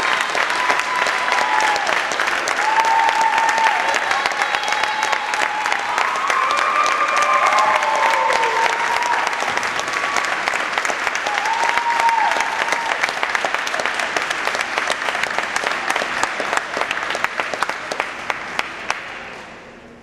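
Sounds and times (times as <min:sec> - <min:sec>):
crowd applauding: 0:00.0 - 0:19.5.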